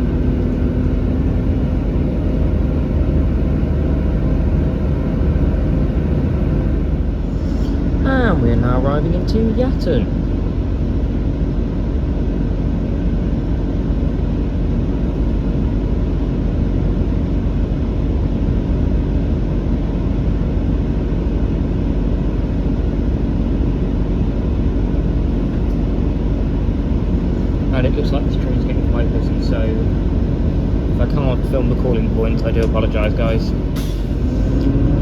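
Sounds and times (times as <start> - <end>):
diesel train engine: 0.0 - 35.0.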